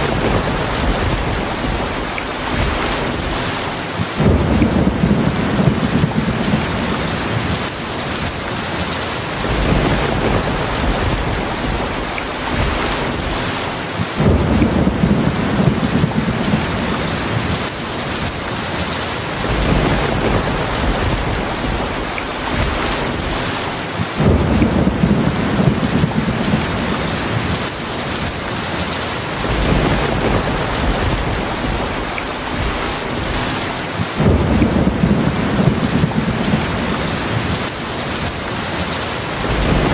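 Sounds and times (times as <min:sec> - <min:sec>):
heavy steady rain: 0:00.0 - 0:39.9
thunder rumbles: 0:00.0 - 0:39.9.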